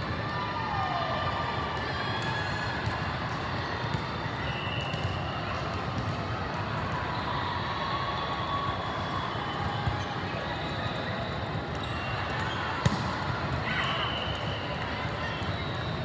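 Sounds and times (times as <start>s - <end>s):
many people talking: 0.0s - 16.0s.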